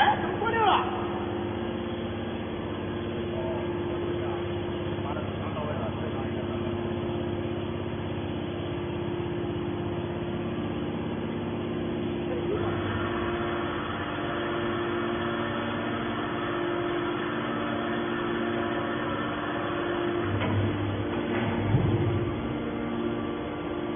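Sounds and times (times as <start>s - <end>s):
hydraulic power unit humming: 0.0s - 23.9s.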